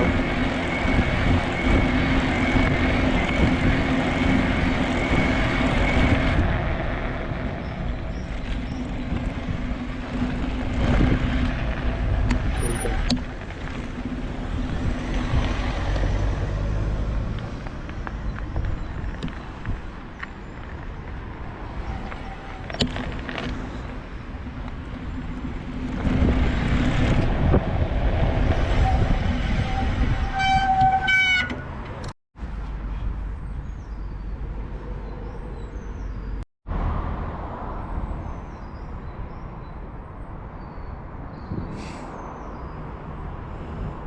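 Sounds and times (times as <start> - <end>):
tyre and wind rumble: 0.0 - 44.0.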